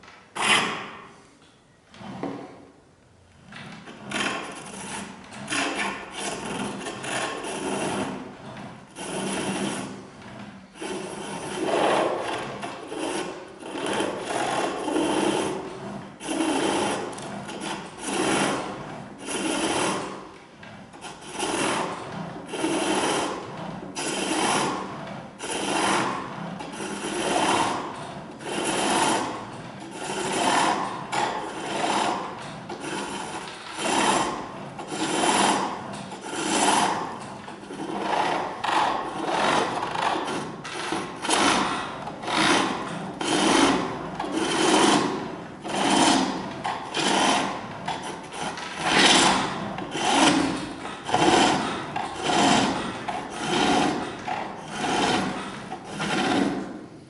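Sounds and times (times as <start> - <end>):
chisel scraping wood on lathe: 0.3 - 1.3, 1.9 - 2.7, 3.4 - 57.0.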